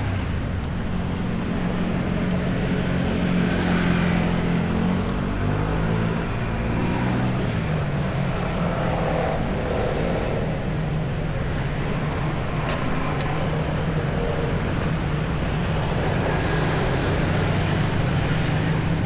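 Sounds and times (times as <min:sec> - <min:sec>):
road noise: 0:00.0 - 0:19.0
vehicle engines humming: 0:00.0 - 0:19.0.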